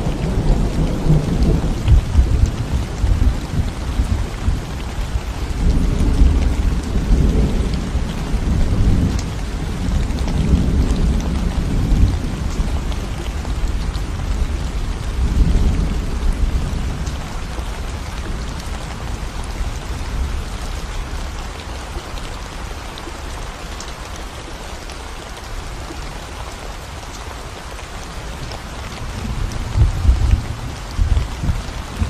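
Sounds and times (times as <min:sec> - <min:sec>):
rain on concrete road: 0:00.0 - 0:32.0.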